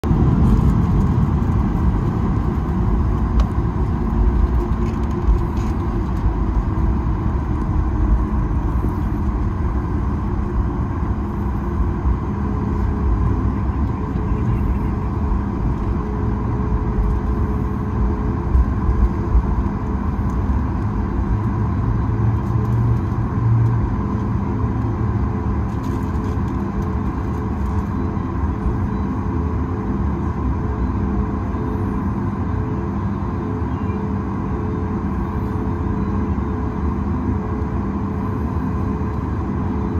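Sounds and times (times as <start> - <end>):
aircraft cabin low rumble: 0.0 - 39.9
faint jet engine whine: 0.0 - 39.9
lower engine whine: 0.0 - 39.9.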